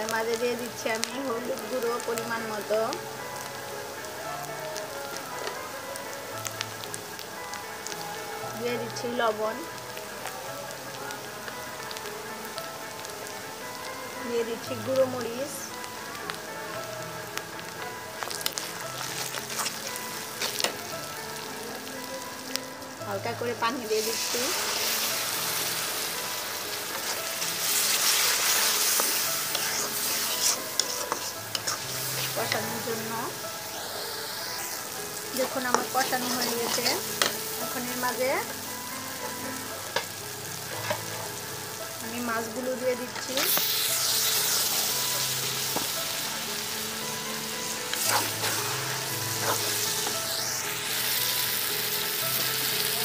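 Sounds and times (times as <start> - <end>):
paste sizzling in hot oil: 0.0 - 53.0.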